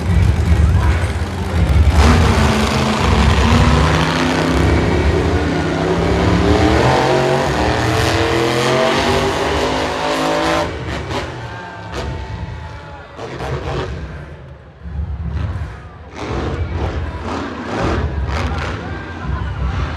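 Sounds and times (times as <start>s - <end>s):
truck engine revving: 0.0s - 19.9s.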